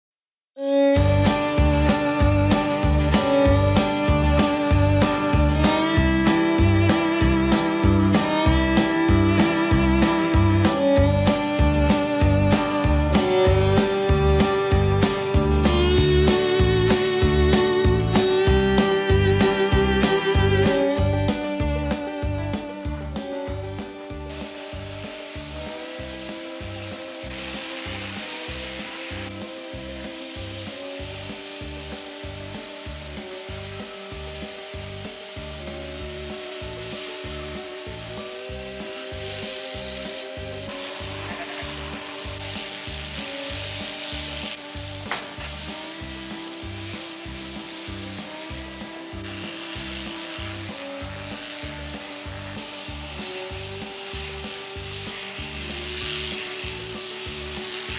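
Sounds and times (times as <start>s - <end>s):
background music with beat: 0.7s - 57.9s
shearing handpiece buzzing: 1.0s - 57.9s.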